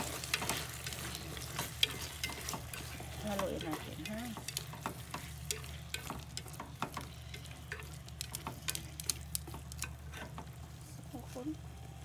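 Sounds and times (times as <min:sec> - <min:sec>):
chopsticks tapping a pot: 0:00.0 - 0:10.6
soft sizzle: 0:00.0 - 0:12.0
steady low hum: 0:00.0 - 0:12.0.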